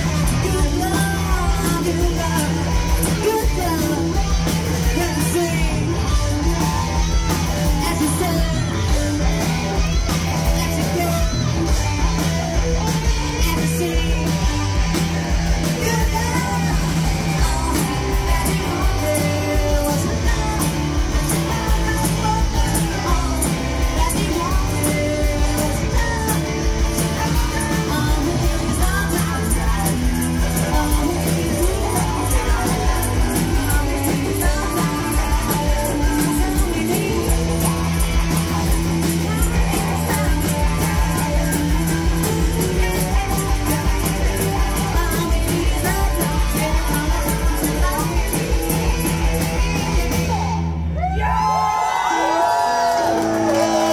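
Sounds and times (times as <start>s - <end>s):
woman singing: 0.0s - 50.7s
live rock band playing: 0.0s - 53.9s.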